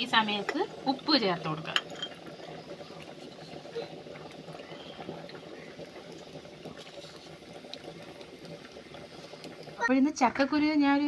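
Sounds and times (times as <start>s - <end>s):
water boiling and bubbling: 0.0s - 11.0s.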